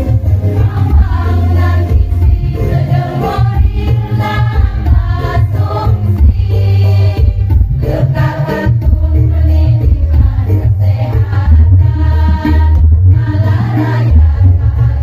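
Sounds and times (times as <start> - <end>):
electronic keyboard with bass: 0.0 - 15.0
women's choir singing: 0.0 - 15.0.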